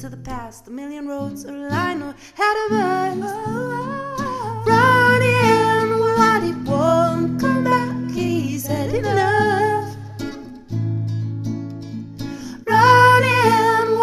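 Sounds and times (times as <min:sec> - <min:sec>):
woman singing: 0:00.0 - 0:10.5, 0:12.4 - 0:14.0
acoustic guitar: 0:00.0 - 0:14.0.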